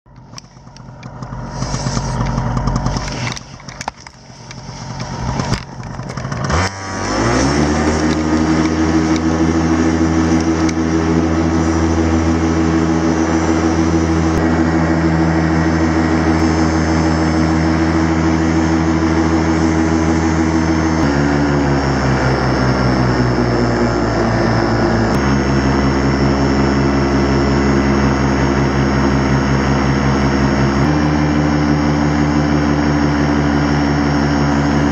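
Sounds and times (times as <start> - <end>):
paramotor engine starting and running: 0.1 - 34.9.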